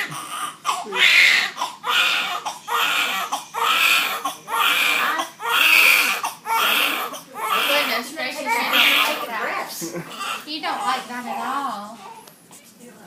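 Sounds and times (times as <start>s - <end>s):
infant crying: 0.0s - 12.3s.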